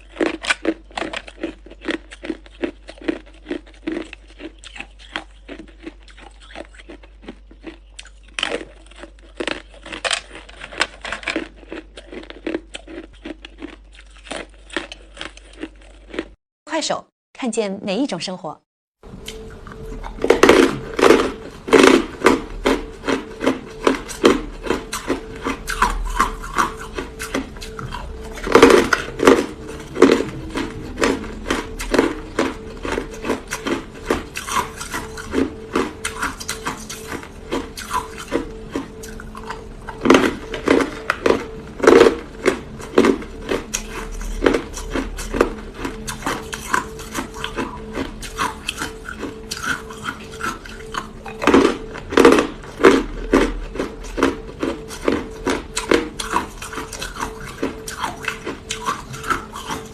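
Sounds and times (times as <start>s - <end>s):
person crunching ice: 0.0s - 16.4s, 19.3s - 59.9s.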